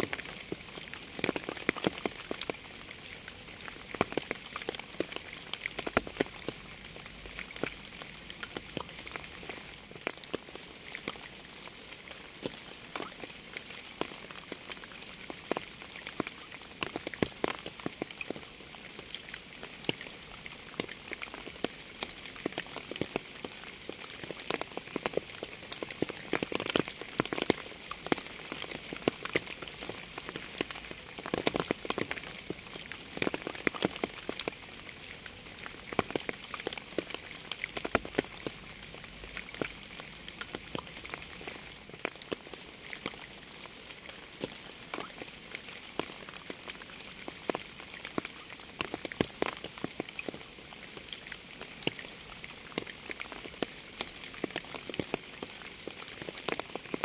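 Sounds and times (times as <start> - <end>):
raindrops ticking on surface: 0.0 - 57.0
steady rain hiss: 0.0 - 57.0.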